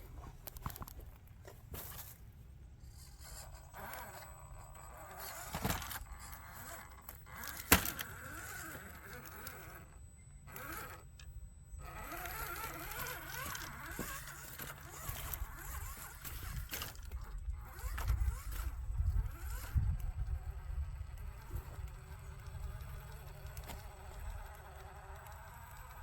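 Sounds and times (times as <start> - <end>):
tyres scraping and crunching: 0.0 - 26.0
rc car motor whining: 2.7 - 26.0.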